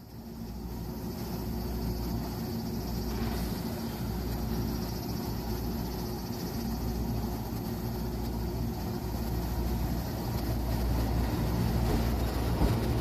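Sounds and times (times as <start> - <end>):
electric train motor hum and rumble: 0.0 - 13.0.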